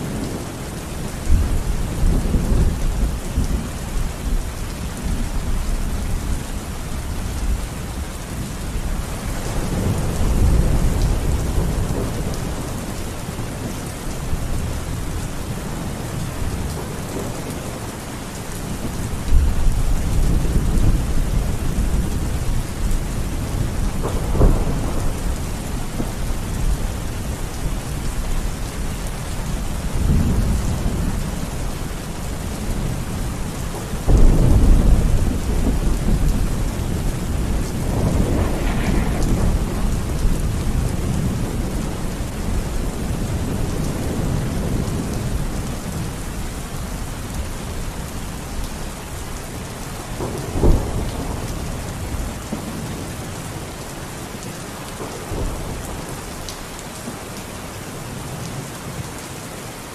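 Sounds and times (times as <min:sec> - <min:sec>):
thunder rumbling and cracking: 0:00.0 - 0:49.2, 0:49.9 - 0:53.7
heavy rain: 0:00.0 - 0:59.9.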